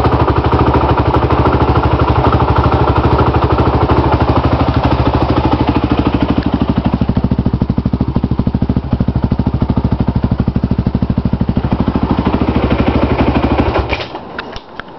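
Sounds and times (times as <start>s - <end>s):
atv engine idling: 0.0s - 14.5s.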